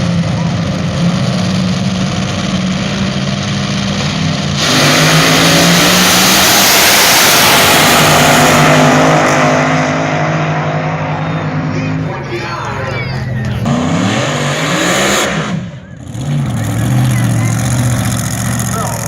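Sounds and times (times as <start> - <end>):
dragster engine roaring: 0.0 - 19.0.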